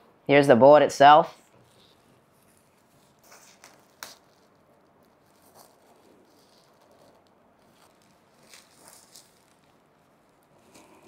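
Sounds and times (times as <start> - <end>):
wrapping sheet rustling: 1.3 - 11.0.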